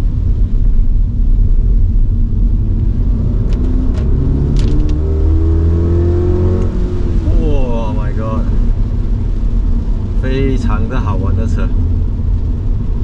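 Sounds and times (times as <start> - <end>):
car engine: 0.0 - 13.0
tyres rumbling on wet road: 0.0 - 13.0.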